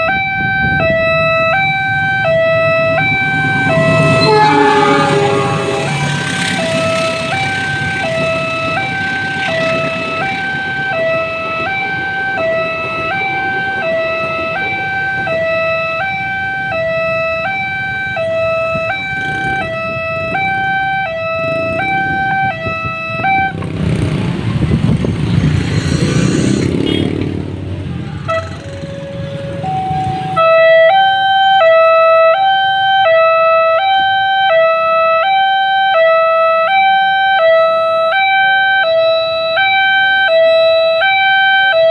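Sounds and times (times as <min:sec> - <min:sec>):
level-crossing two-tone siren: 0:00.0 - 0:23.7, 0:28.2 - 0:41.9
passing traffic rumble: 0:00.0 - 0:41.9.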